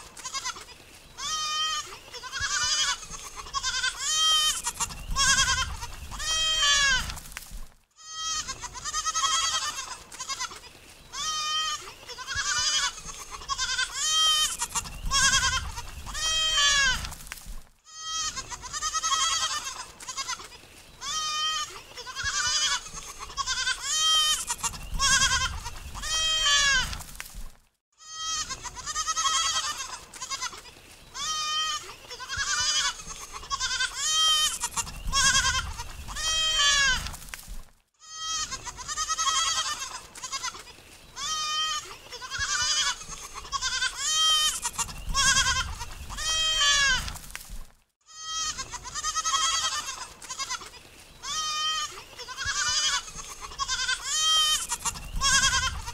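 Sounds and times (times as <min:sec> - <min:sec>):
goats bleating: 0:00.1 - 0:07.2, 0:08.0 - 0:17.1, 0:17.9 - 0:27.0, 0:28.0 - 0:37.1, 0:38.0 - 0:47.2, 0:48.2 - 0:55.9.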